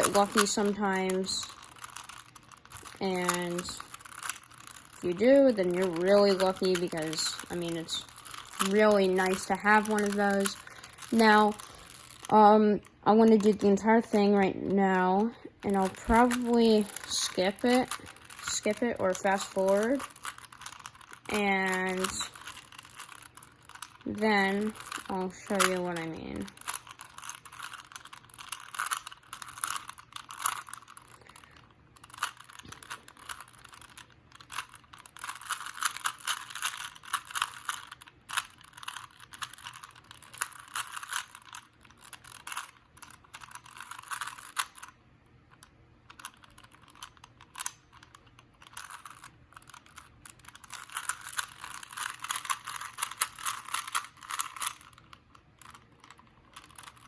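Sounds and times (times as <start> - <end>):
puzzle cube clicking: 0.0 - 14.2, 15.6 - 57.0.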